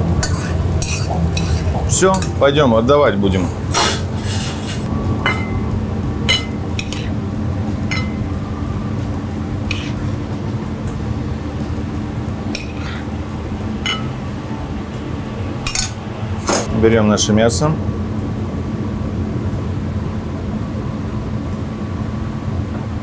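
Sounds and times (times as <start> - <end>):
low hum of kitchen equipment: 0.0 - 23.0.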